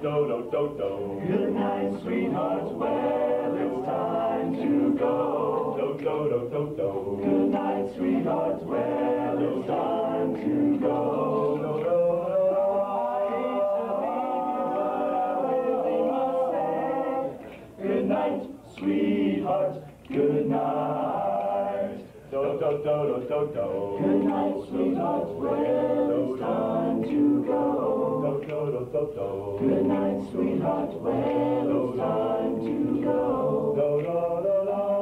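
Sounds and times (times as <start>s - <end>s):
male vocal group singing a cappella: 0.0s - 35.0s.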